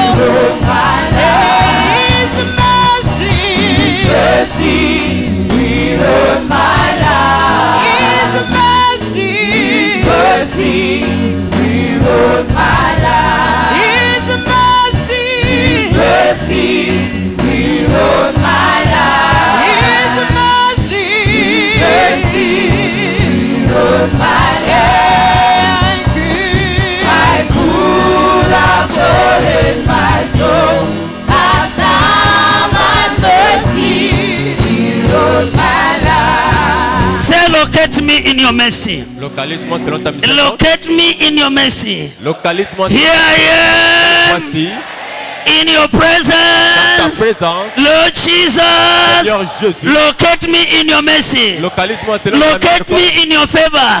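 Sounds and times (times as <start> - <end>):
choir singing with band: 0.0 - 39.3, 42.2 - 49.7.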